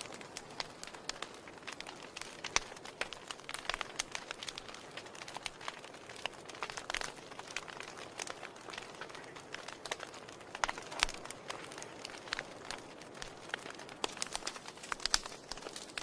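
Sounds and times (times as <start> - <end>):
soft steady hiss: 0.0 - 16.0
wood fire crackling: 0.0 - 16.0.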